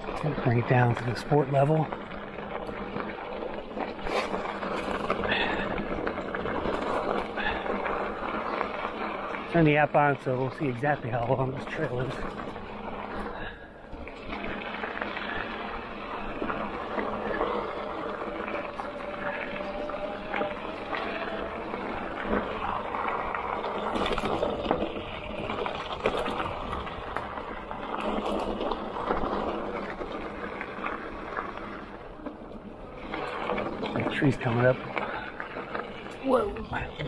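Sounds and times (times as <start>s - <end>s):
bike rattling over rocks: 0.0s - 37.0s
bike tyres rolling on dirt: 0.0s - 37.0s.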